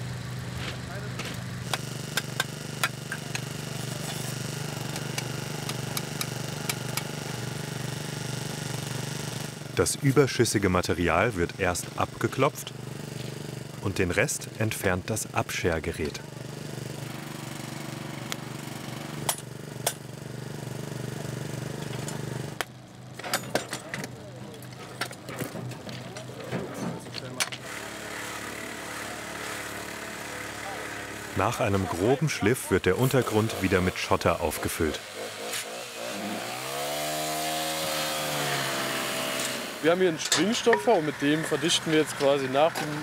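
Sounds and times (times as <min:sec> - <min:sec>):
hydraulic machine engine running: 0:00.1 - 0:43.0.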